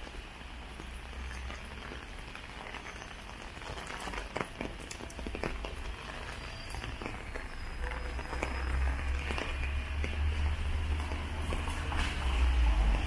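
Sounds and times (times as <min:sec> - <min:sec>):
rain on pavement: 0:00.0 - 0:13.0.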